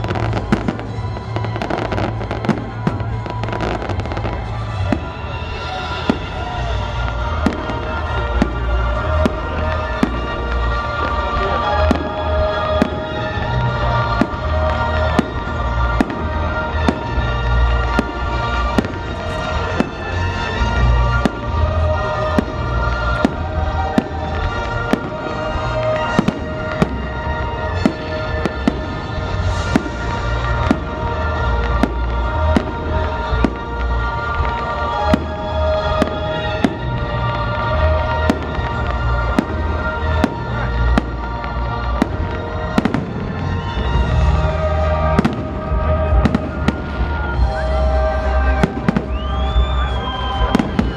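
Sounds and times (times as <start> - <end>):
fireworks bangs: 0.0 - 50.9
music playing: 0.0 - 50.9.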